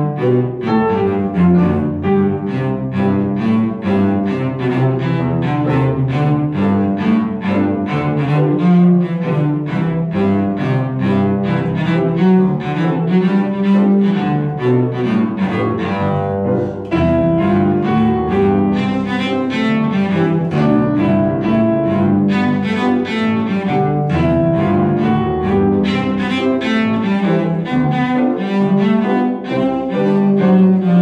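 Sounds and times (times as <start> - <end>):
bowed cello: 0.0 - 31.0
grand piano: 0.0 - 31.0.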